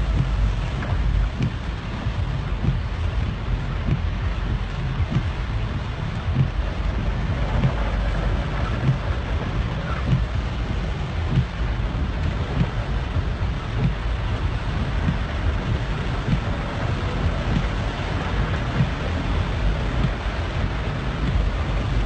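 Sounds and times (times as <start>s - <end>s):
dull thumps: 0.0s - 21.9s
heavy rain on a car: 0.0s - 22.0s
low rumble of driving: 0.0s - 22.0s.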